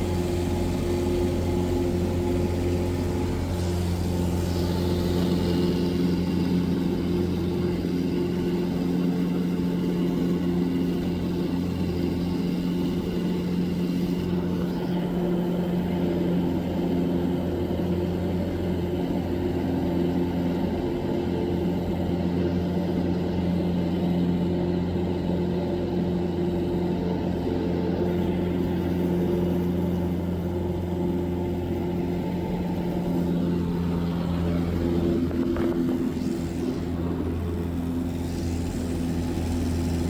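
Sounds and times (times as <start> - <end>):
propeller plane engine droning: 0.0 - 40.0.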